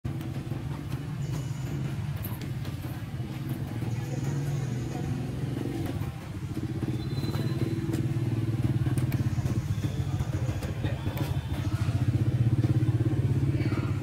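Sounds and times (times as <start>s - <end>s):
motor engine pulsing hum: 0.1s - 14.0s.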